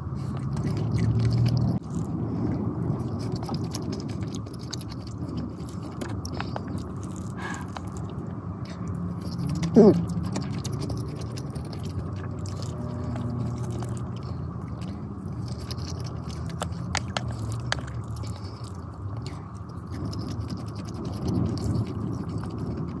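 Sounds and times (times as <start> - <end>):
close chewing: 0.0 - 23.0
steady low hum: 0.0 - 23.0.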